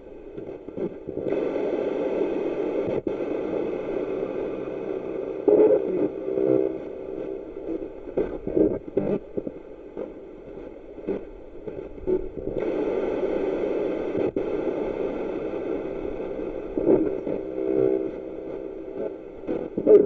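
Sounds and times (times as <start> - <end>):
radio sweeping through stations: 0.0 - 20.0
static hiss: 0.0 - 20.0.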